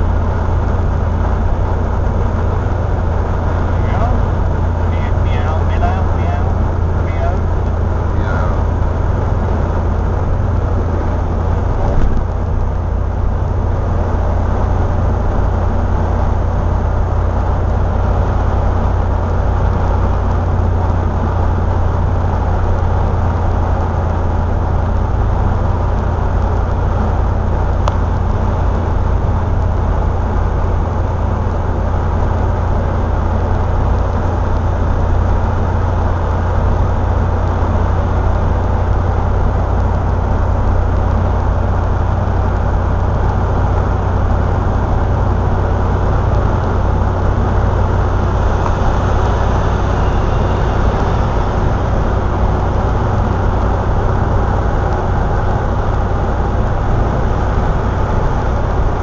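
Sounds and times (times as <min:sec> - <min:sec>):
car engine humming: 0:00.0 - 0:59.0
road and wind noise: 0:00.0 - 0:59.0.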